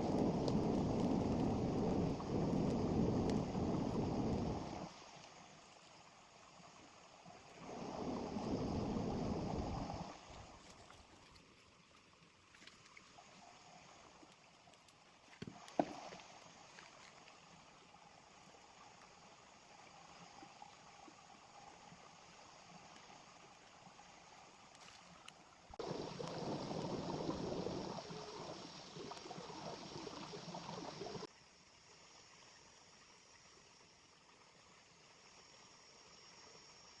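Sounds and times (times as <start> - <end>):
small river flowing: 0.0 - 37.0.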